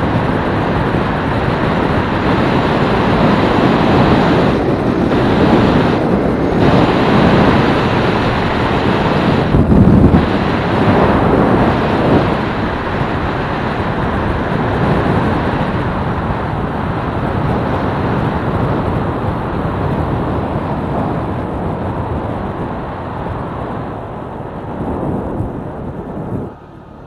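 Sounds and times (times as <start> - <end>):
motorcycle engine: 0.0 - 18.7, 23.0 - 27.0
road noise: 0.0 - 27.0
wind rushing over microphone: 0.0 - 27.0.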